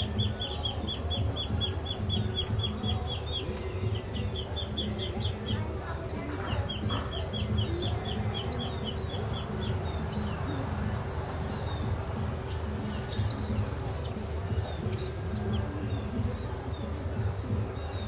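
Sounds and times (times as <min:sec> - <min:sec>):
nestlings chirping: 0:00.0 - 0:18.0.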